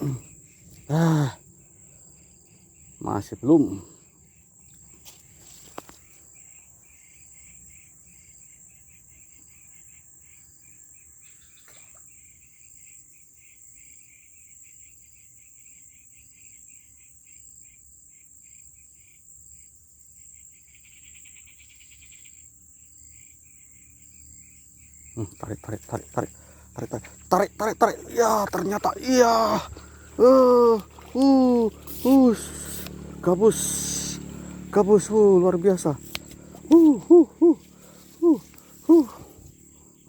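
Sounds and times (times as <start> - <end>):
insects chirping and droning: 0.0 - 40.0.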